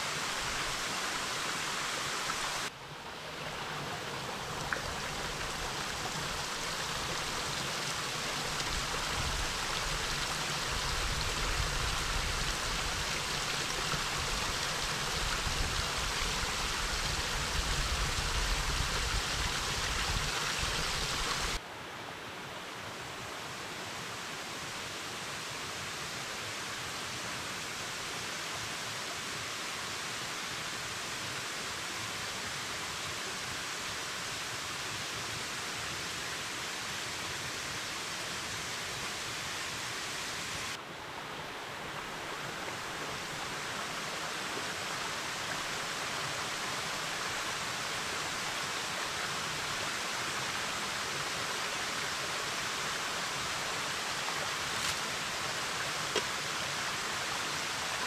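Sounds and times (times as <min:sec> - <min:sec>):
stream and waterfall over rocks: 0:00.0 - 0:58.0.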